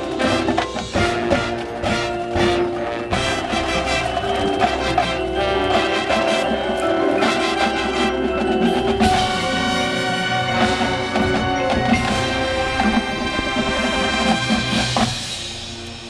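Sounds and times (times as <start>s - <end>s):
mallet percussion: 0.0s - 16.0s
marching band playing: 0.0s - 16.0s.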